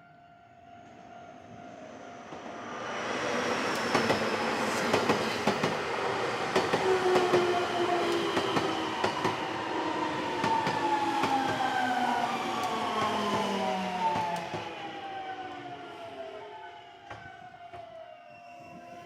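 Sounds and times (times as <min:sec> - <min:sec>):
train running past: 0:00.6 - 0:19.0.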